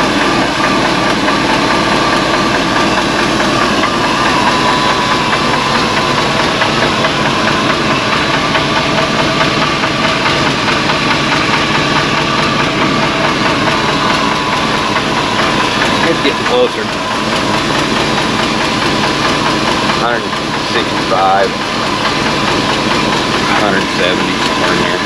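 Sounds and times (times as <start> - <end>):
engine rattle: 0.0 - 25.0
truck engine idling: 0.0 - 25.0.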